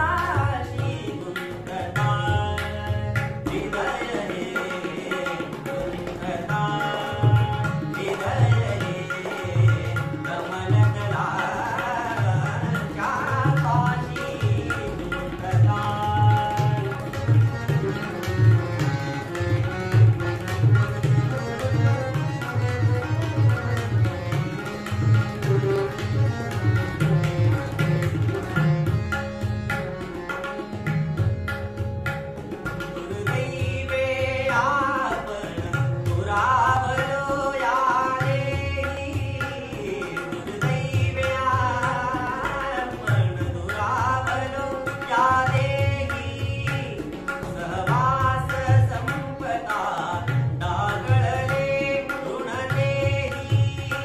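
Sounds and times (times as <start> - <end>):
man singing: 0.0 - 29.9, 32.7 - 54.0
harmonium: 0.0 - 54.0
tabla strokes: 0.0 - 54.0.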